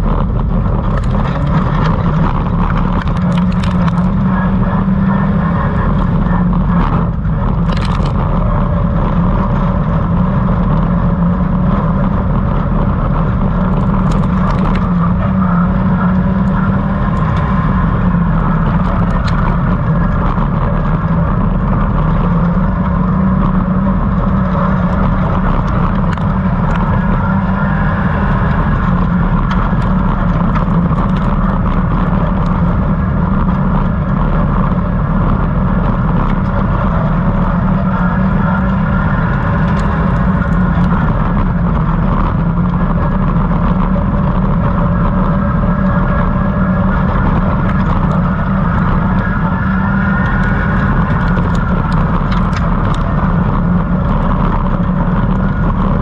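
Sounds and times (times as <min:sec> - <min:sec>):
racing car engine running flat out: 0:00.0 - 0:56.0.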